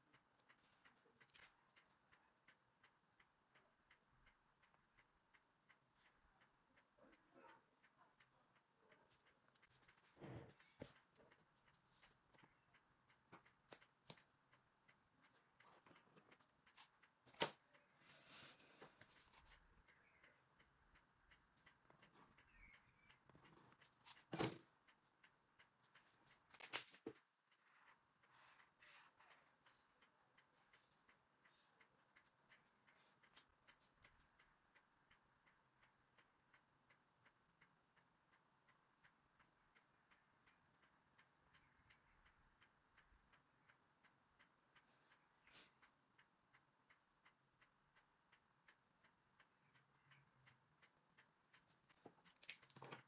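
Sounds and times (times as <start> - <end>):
faint regular ticking: 0.0 - 53.0.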